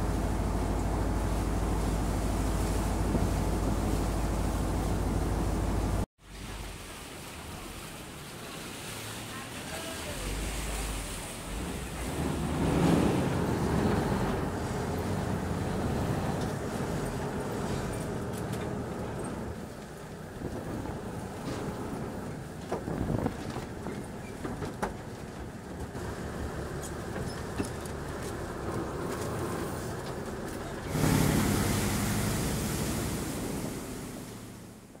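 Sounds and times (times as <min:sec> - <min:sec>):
boat engine running: 0:00.0 - 0:06.0, 0:08.9 - 0:35.0
rushing churning water: 0:00.0 - 0:34.9.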